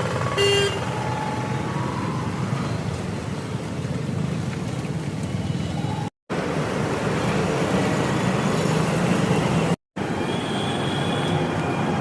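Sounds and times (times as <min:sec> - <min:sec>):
roadside traffic: 0:00.0 - 0:12.0.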